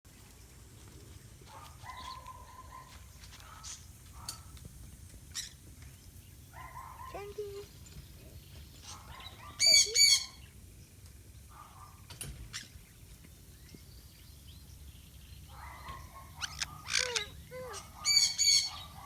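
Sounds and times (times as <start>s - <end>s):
birds calling: 1.5s - 10.6s, 11.5s - 19.0s.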